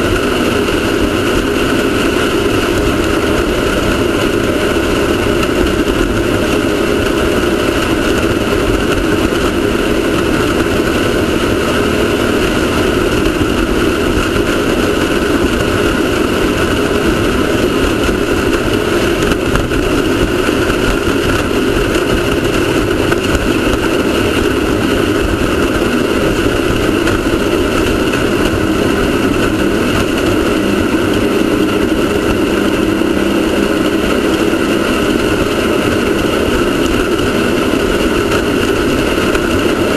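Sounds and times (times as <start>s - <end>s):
loud rushing noise: 0.0s - 39.9s
race car engine running: 0.0s - 39.9s.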